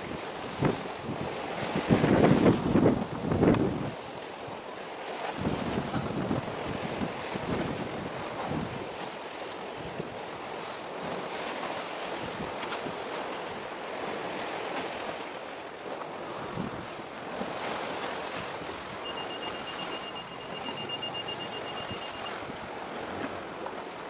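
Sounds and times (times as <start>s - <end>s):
wind buffeting microphone: 0.0s - 4.6s, 5.2s - 24.0s
sea water washing: 0.0s - 24.0s.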